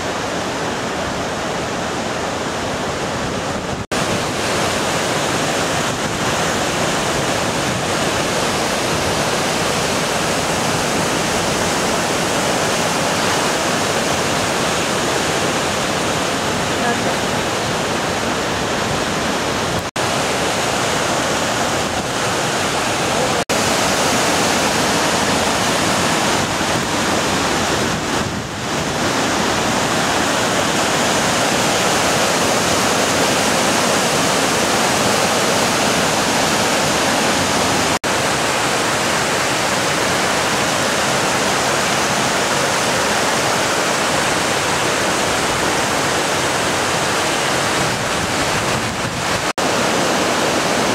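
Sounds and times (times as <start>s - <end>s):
whitewater rushing over boulders: 0.0s - 50.9s.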